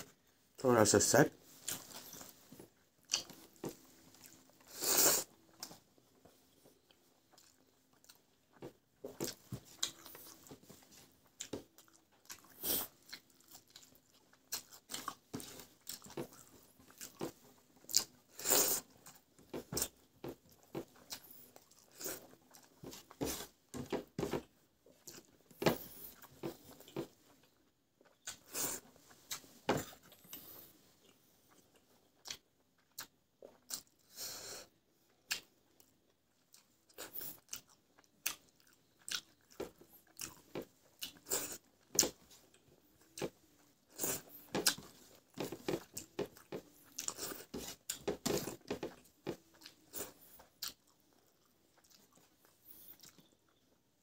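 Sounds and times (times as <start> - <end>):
person chewing with crunches: 1.5 - 53.9.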